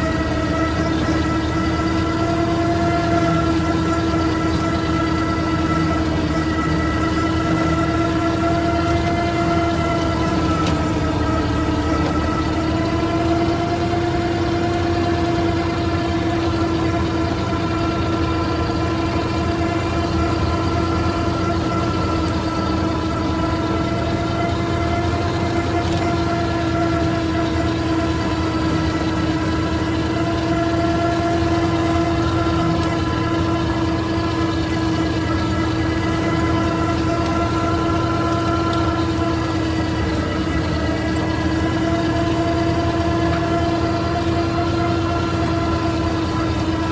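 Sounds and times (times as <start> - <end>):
steady whine: 0.0 - 46.9
tractor diesel engine running: 0.0 - 46.9.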